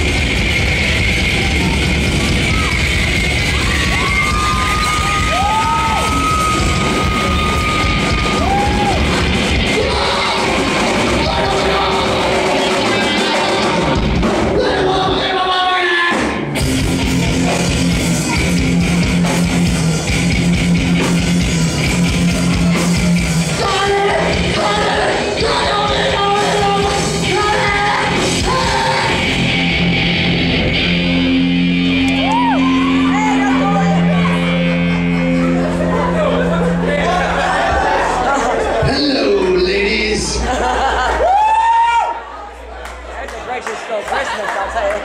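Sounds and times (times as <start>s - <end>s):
live rock music with singing: 0.0s - 40.6s.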